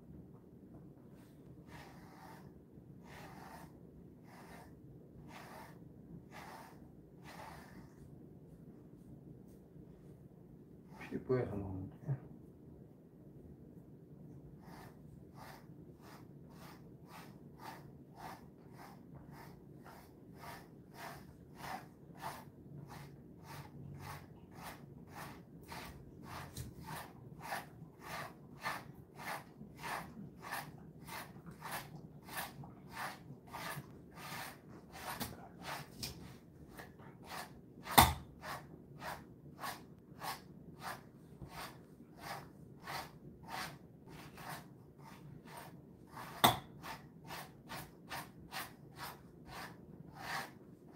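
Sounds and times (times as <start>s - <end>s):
brush stroking dog fur: 1.2s - 8.0s, 14.6s - 50.9s.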